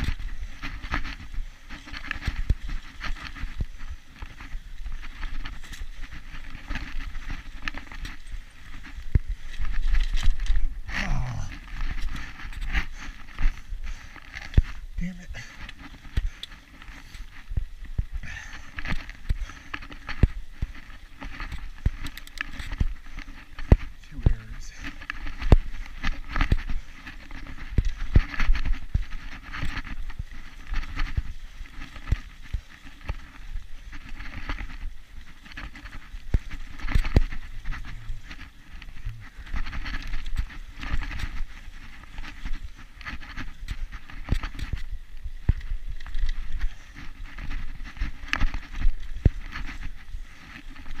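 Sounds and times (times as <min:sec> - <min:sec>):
steady rushing noise: 0:00.0 - 0:51.0.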